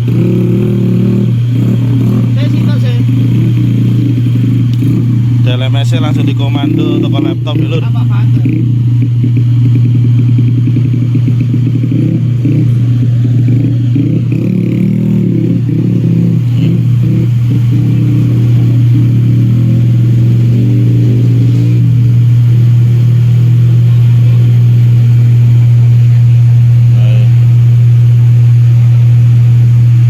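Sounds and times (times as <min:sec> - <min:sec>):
loud deep bass tone: 0:00.0 - 0:30.0
pulsing low-mid sound: 0:00.0 - 0:30.0.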